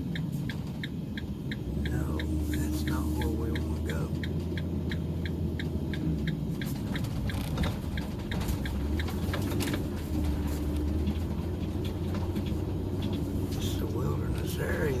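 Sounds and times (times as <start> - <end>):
car engine and road rumble: 0.0 - 15.0
light ticking: 0.0 - 15.0.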